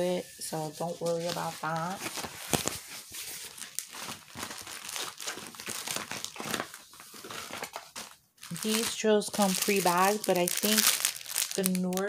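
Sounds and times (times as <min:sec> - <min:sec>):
plastic and paper crinkling: 0:00.0 - 0:12.0.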